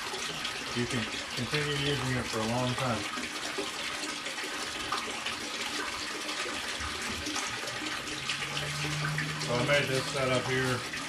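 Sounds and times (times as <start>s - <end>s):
water pouring into tank: 0.0s - 11.0s.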